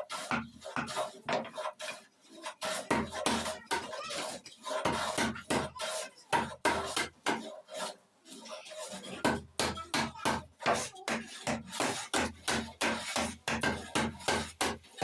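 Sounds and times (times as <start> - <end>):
rasping strokes on wood: 0.0 - 15.0.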